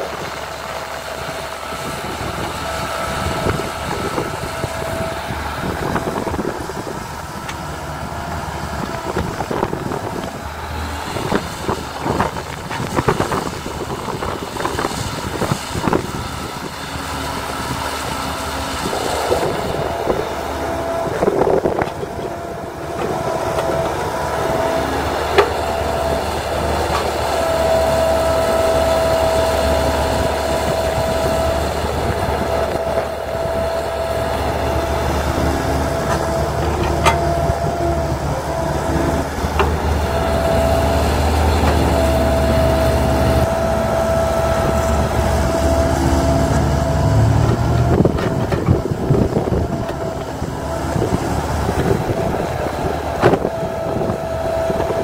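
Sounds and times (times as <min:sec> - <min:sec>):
excavator diesel engine: 0:00.0 - 0:55.0
hydraulic whine: 0:00.0 - 0:55.0.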